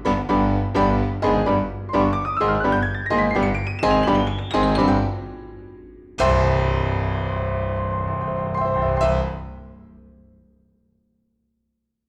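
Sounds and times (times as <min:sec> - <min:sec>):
piano chords: 0:00.0 - 0:10.1.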